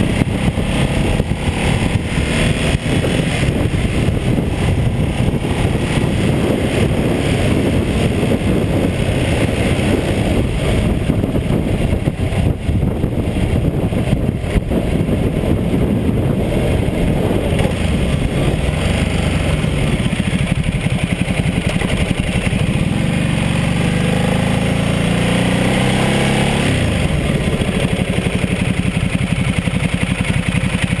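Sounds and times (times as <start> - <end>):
wind rush: 0.0 - 30.6
motorcycle engine running: 0.0 - 31.0.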